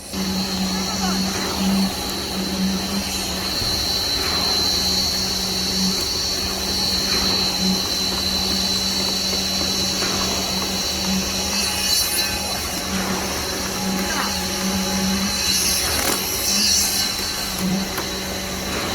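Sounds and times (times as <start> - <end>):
concrete pump truck humming: 0.0 - 18.9.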